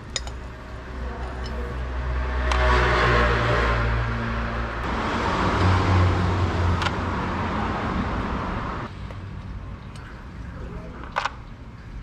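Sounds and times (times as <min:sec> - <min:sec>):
motor vehicle hum: 0:00.0 - 0:12.0.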